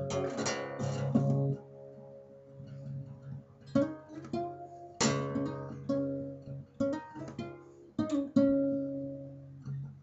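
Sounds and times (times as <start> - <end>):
acoustic guitar: 0.0 - 10.0.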